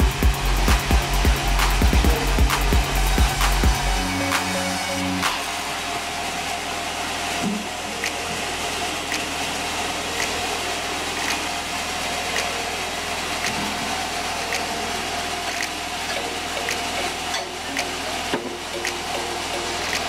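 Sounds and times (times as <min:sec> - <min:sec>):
band saw machine hum: 0:00.0 - 0:20.0.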